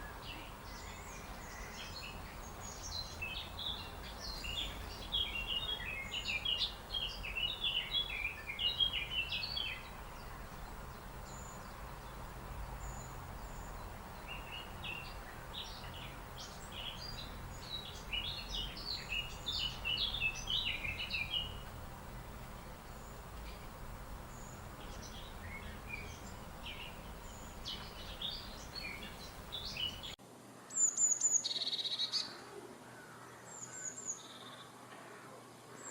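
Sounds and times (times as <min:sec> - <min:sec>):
low background rumble: 0:00.0 - 0:30.2
bird chirping: 0:00.0 - 0:34.8.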